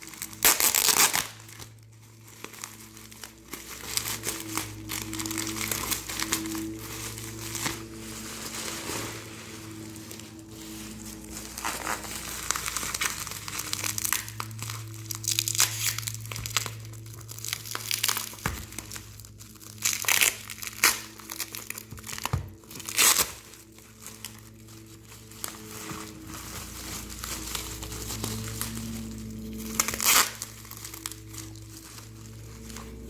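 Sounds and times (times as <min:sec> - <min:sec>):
plastic packaging crinkling: 0:00.0 - 0:33.0.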